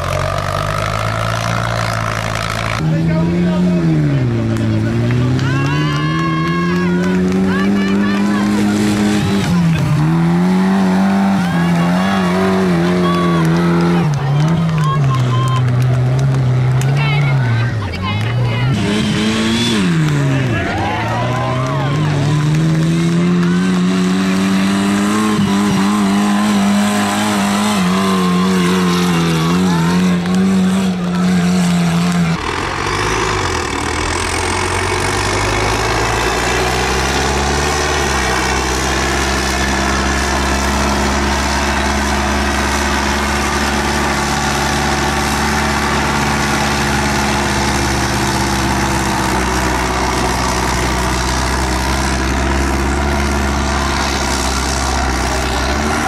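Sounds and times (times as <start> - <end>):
large tractor engine droning: 0.0 - 56.0
small tractor engine revving: 0.0 - 56.0.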